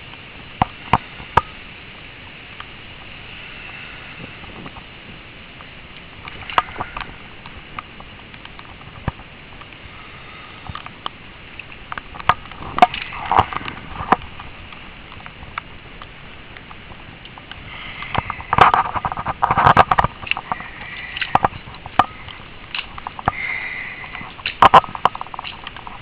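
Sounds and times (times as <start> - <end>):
wet snow and slush falling: 0.0 - 26.0.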